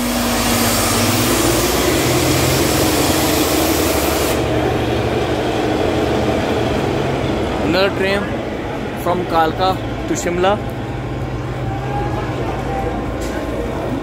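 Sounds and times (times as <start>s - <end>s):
diesel locomotive engine running: 0.0s - 14.0s.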